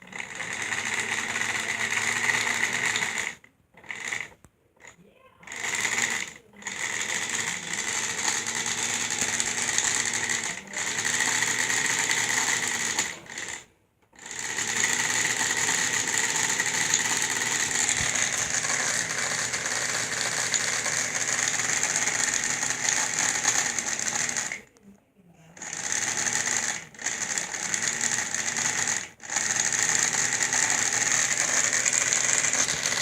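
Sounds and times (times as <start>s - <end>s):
small electric motor whining: 0.0s - 24.7s, 25.6s - 33.0s.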